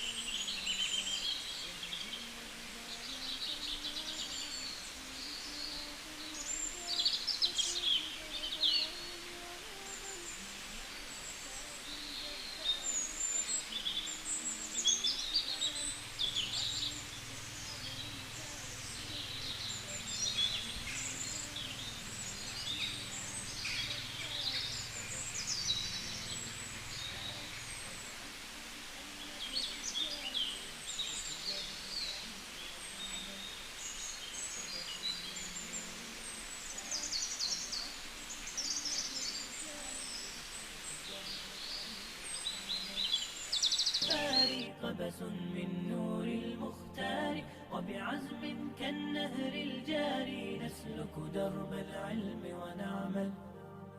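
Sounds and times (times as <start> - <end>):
outdoor background hiss: 0.0 - 53.9
songbirds chirping and trilling: 0.0 - 53.9.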